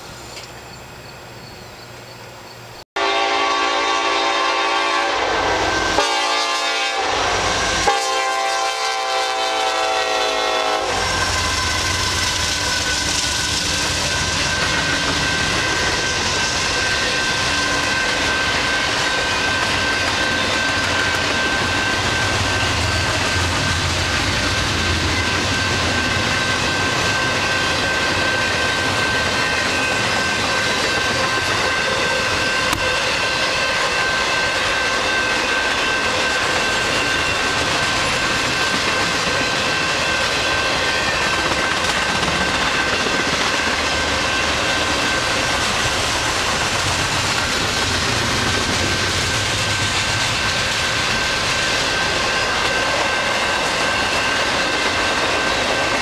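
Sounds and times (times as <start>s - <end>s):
train wheels rushing on rail: 0.0s - 56.0s.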